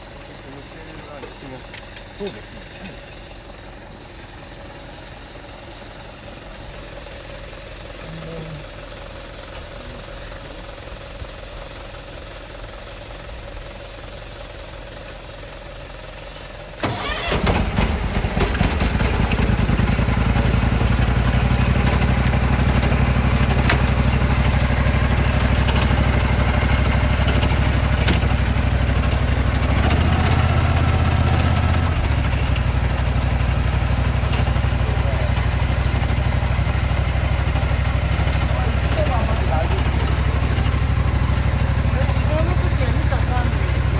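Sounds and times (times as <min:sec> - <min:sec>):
engine starting and running: 0:00.0 - 0:43.9.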